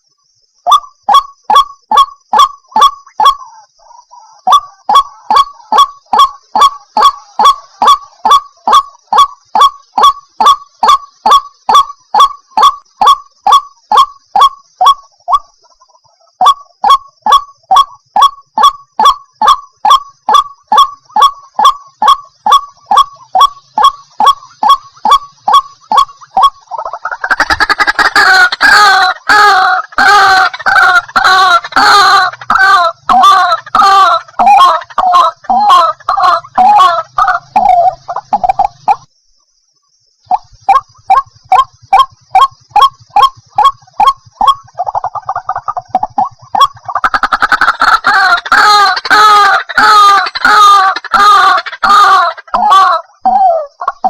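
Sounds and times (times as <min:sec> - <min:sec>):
bird croaking call: 0:00.0 - 0:54.0
overlapping bird calls: 0:00.0 - 0:54.0.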